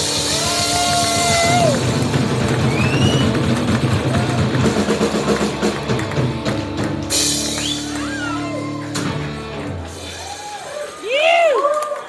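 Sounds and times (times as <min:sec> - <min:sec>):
live rock band playing: 0:00.0 - 0:11.3.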